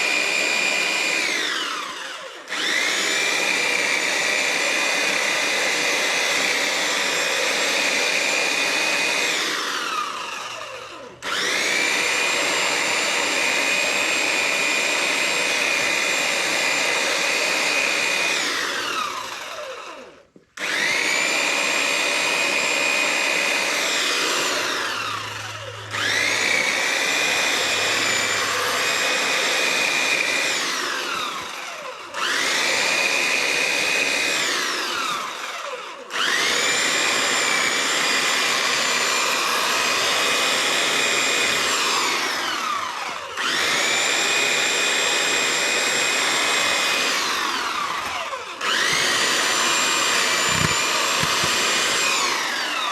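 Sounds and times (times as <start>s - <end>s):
electric garden tool motor whine: 0.0s - 52.9s.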